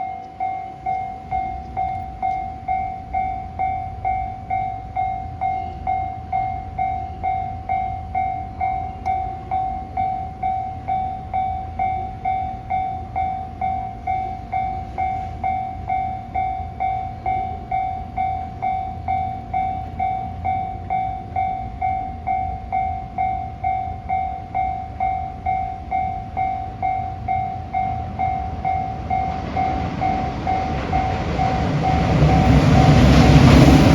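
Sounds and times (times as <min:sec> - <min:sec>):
level-crossing warning bell: 0:00.0 - 0:33.9.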